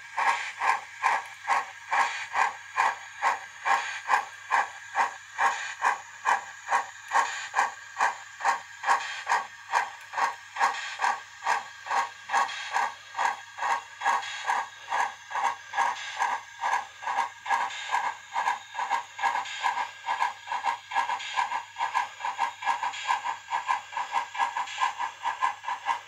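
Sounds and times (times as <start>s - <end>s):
model steam locomotive chuffing: 0.0s - 26.0s.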